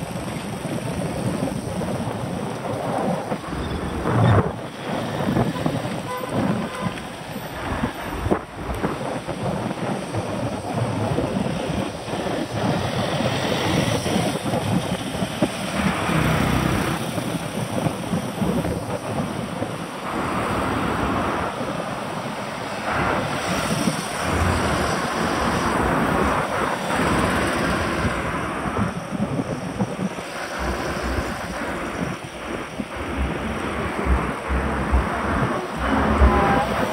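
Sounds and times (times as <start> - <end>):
tyre and road noise: 0.0 - 36.9
wind rushing over microphone: 0.0 - 36.9.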